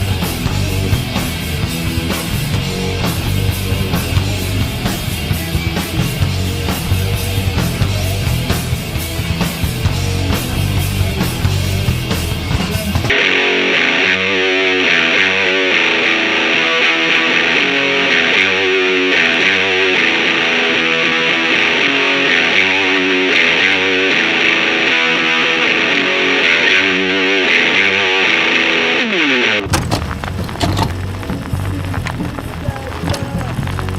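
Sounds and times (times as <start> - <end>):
distorted electric guitar riff: 0.0 - 33.9
fuller-sounding music: 0.0 - 33.9.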